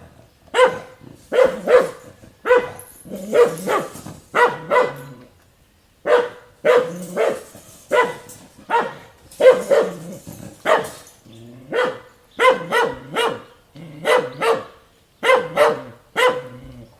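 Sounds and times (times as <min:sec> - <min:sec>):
dog barking: 0:00.5 - 0:05.2, 0:06.0 - 0:11.1, 0:11.7 - 0:16.6.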